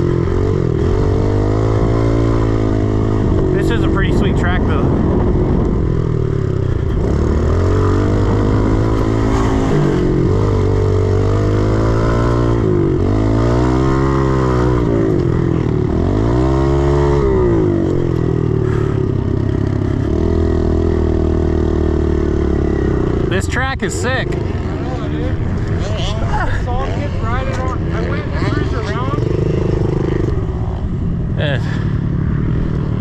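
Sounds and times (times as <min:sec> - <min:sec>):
pit bike engine revving: 0:00.0 - 0:33.0.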